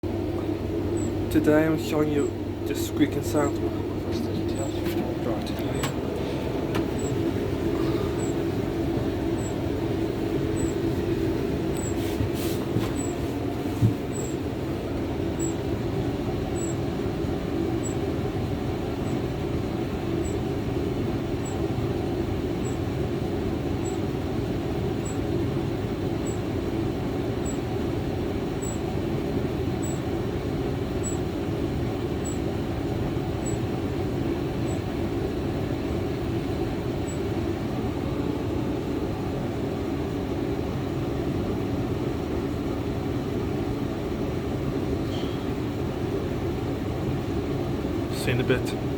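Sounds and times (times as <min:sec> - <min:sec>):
machine running with steady rumble: 0:00.0 - 0:48.9.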